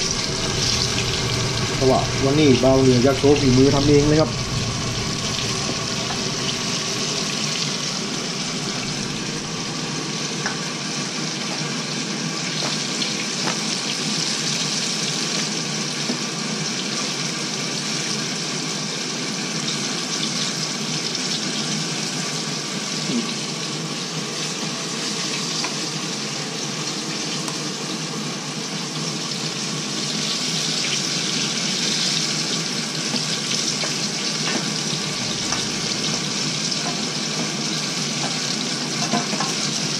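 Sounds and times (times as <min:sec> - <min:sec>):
chicken deep-frying in oil: 0:00.0 - 0:39.9.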